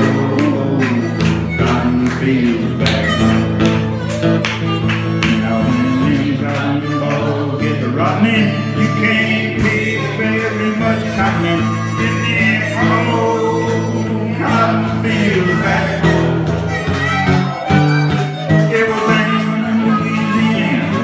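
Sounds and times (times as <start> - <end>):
acoustic guitar strumming: 0.0 - 21.0
harmonica playing: 0.0 - 21.0.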